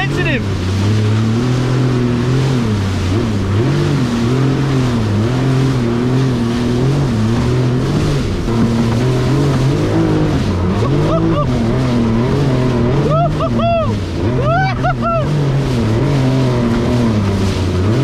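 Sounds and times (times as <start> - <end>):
jet ski engine revving: 0.0 - 18.0.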